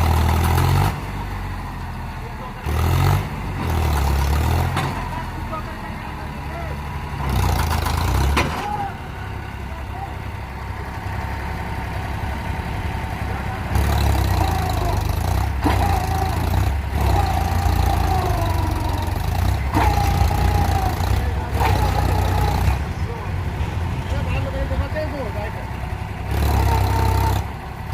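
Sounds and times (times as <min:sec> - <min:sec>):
tractor diesel engines running: 0:00.0 - 0:27.9
voices: 0:00.0 - 0:27.9.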